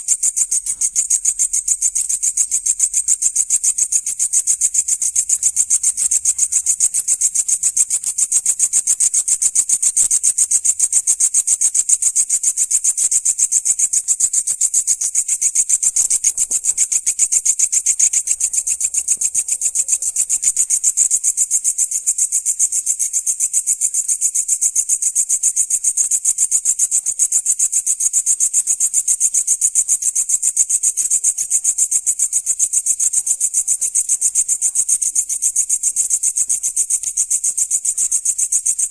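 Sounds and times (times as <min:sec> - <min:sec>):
grasshopper chirping: 0:00.0 - 0:38.9.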